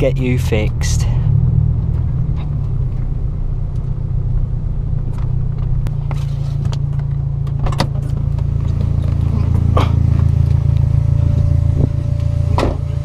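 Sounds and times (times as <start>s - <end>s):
car engine humming in cabin: 0.0s - 13.0s.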